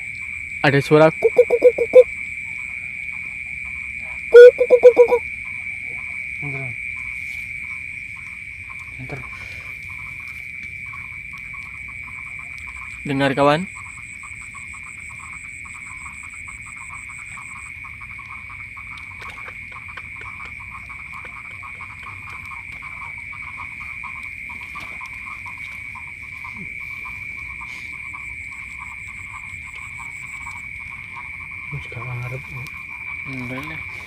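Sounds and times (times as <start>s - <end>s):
frogs croaking: 0.0s - 34.0s
high-pitched insect trill: 0.0s - 34.0s.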